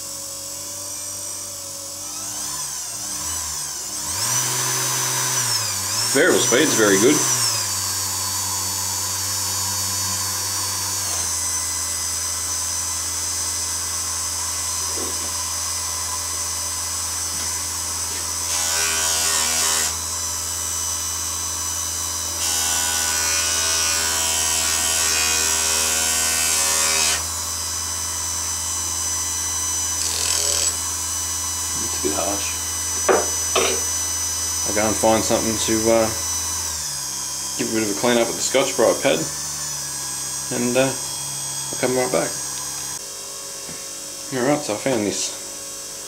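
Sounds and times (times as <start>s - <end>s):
bench polisher motor running: 0.0s - 46.0s.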